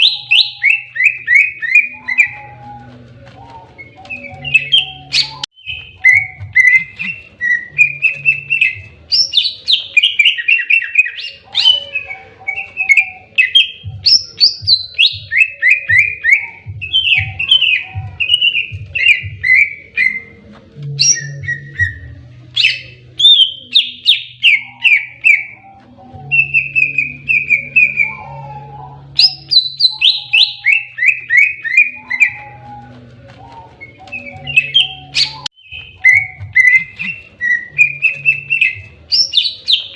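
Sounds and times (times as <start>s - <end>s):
bird singing rapid whistles: 0.0s - 39.9s.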